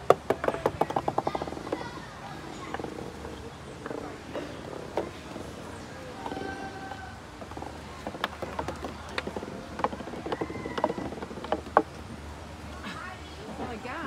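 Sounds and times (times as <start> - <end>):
ball clinking off metal pegs: 0.0 - 12.1.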